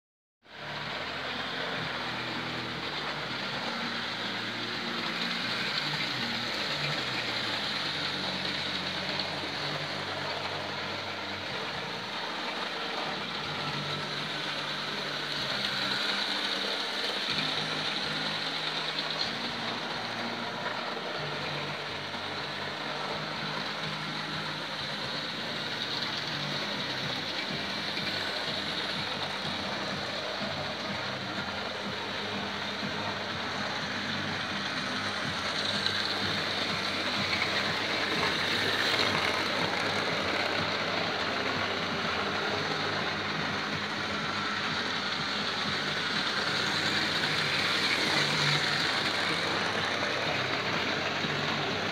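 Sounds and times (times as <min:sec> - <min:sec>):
model train motor whirring: 0:00.5 - 0:51.9
wheels hissing on rails: 0:00.5 - 0:51.9.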